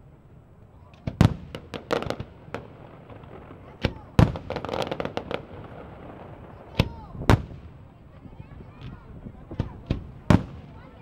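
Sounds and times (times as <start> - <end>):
firework crackling: 0.9 - 11.0
firework bangs: 1.0 - 11.0.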